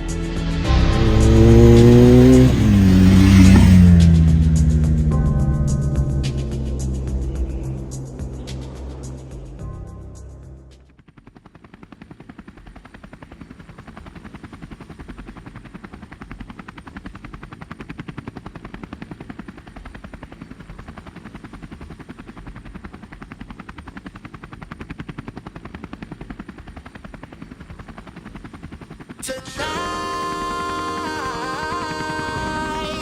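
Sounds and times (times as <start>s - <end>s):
motorcycle engine running: 0.6s - 29.3s, 30.4s - 33.0s.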